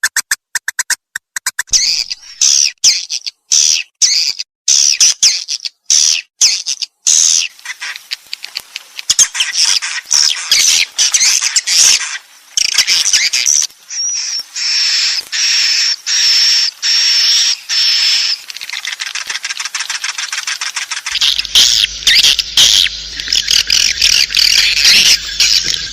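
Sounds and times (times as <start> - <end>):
birds twittering and clicking: 0.0 - 25.9
steady high bird calls: 1.7 - 25.9.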